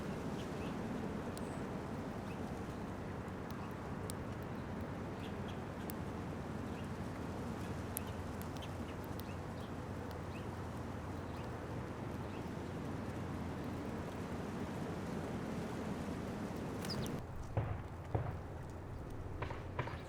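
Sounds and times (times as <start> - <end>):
songbirds chirping: 0.0 - 17.2
low outdoor rumble and hiss: 0.0 - 20.0.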